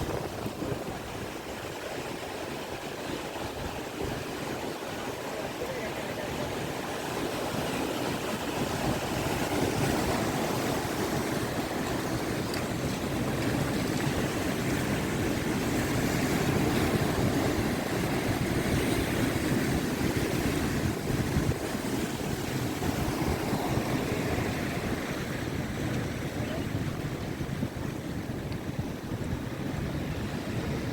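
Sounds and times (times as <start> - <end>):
surf breaking and washing: 0.0 - 30.9
wind on microphone: 0.0 - 30.9.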